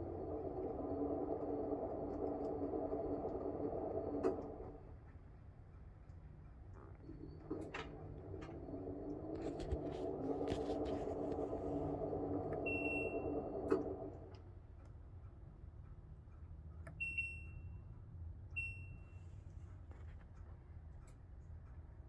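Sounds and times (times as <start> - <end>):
washing machine rumbling hum: 0.0 - 22.0.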